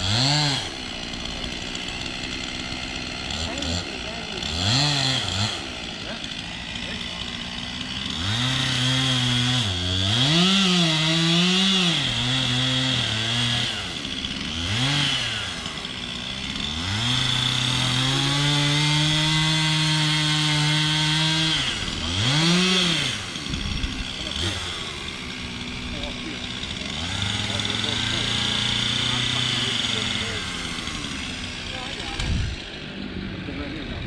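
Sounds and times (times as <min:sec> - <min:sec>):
chainsaw cutting tree trunk: 0:00.0 - 0:34.0.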